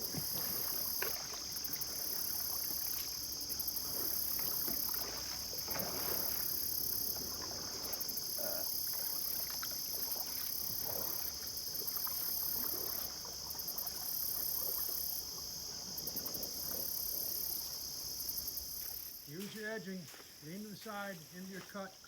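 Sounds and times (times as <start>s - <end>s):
paddle swishing through water: 0.0s - 19.6s
high-pitched insect chorus: 0.0s - 22.0s.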